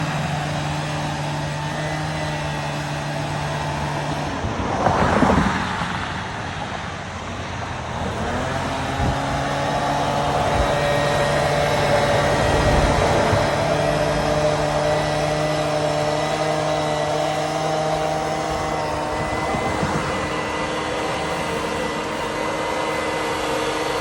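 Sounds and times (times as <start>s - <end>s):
engine running: 0.0s - 24.0s
loud rushing noise: 0.0s - 24.0s.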